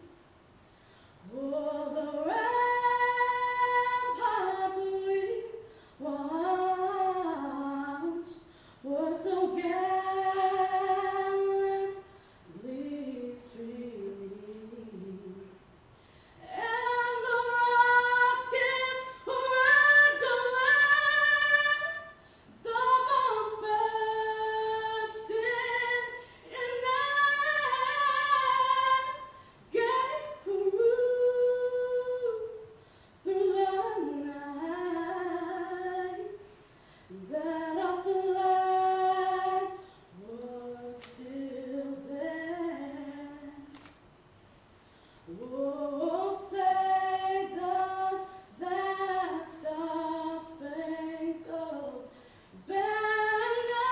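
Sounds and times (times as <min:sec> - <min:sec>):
woman singing unaccompanied: 0:01.2 - 0:15.7, 0:16.4 - 0:43.8, 0:45.3 - 0:53.9.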